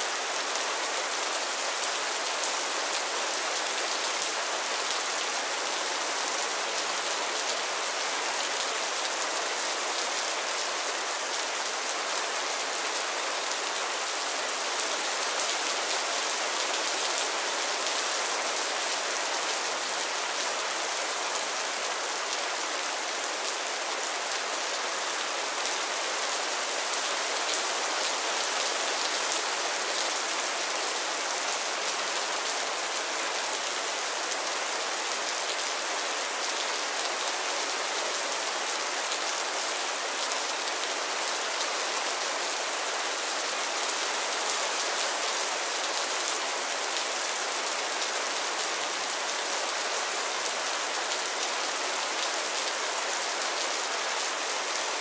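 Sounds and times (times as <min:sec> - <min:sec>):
rain on a roof: 0:00.0 - 0:55.0.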